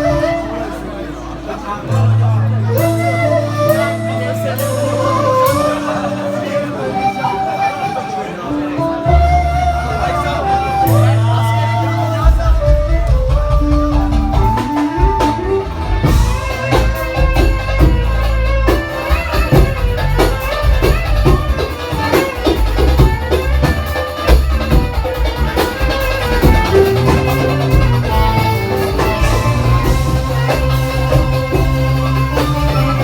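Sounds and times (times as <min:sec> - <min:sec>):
live band playing pop music: 0:00.0 - 0:33.0.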